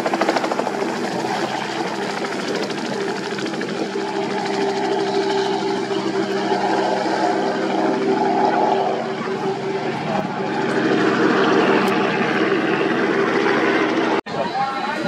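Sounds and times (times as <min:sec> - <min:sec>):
propeller plane engine in flight: 0:00.0 - 0:14.3.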